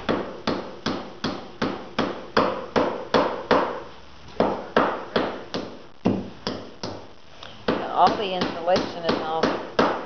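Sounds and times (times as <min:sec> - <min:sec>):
hammer striking wood: 0:00.0 - 0:03.8, 0:04.4 - 0:07.1, 0:07.7 - 0:10.0.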